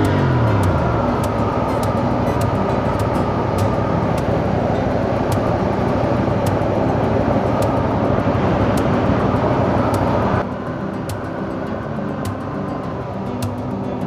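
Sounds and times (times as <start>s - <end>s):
motorcycle engine drone: 0.0s - 14.0s
wind rush on microphone: 0.0s - 14.0s.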